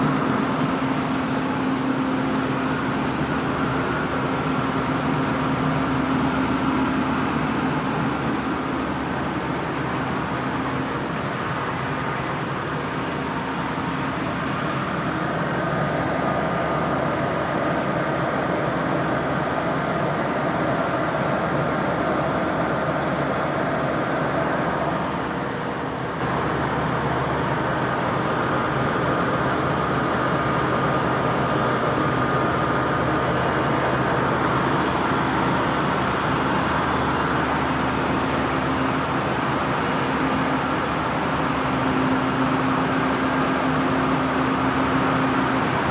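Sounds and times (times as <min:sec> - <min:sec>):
diesel engine running: 0:00.0 - 0:45.9
rice milling machine running: 0:00.0 - 0:45.9.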